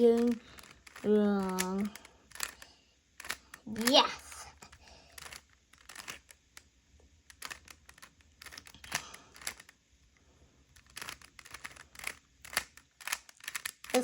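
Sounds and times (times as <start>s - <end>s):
puzzle cube plastic clicks: 0.0s - 9.8s, 10.7s - 14.0s.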